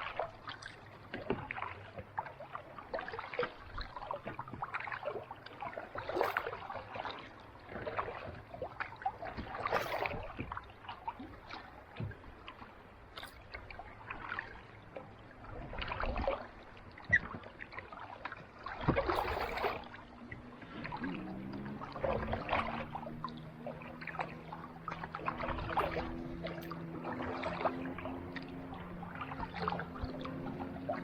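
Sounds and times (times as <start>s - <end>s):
paddle splashing in water: 0.0s - 31.0s.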